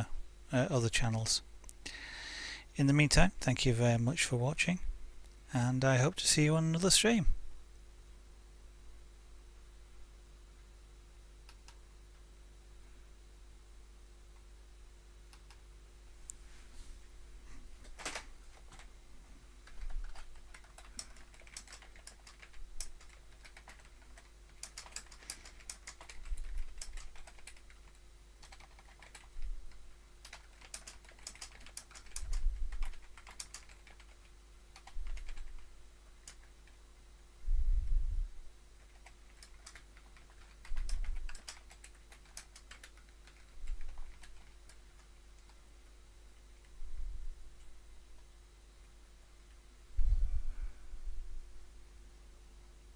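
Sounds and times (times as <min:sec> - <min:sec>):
faint hum: 0:00.0 - 0:52.9.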